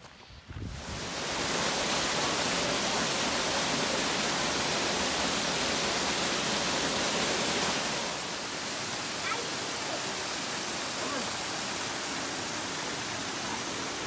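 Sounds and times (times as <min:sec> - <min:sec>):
waterfall rushing over rocks: 0:00.7 - 0:14.0.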